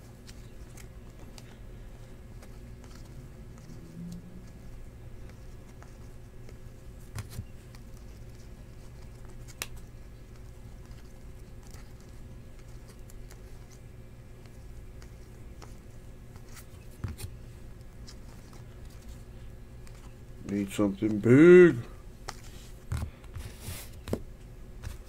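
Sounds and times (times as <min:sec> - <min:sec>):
steady low hum: 0:00.0 - 0:25.0
cards sliding and flicking: 0:02.3 - 0:13.8, 0:14.4 - 0:19.2, 0:19.8 - 0:25.0.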